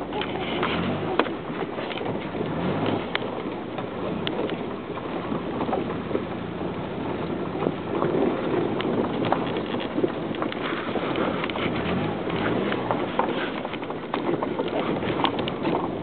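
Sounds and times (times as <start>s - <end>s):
vehicle engine and road noise: 0.0s - 16.0s
vehicle knocks and rattles: 0.0s - 16.0s.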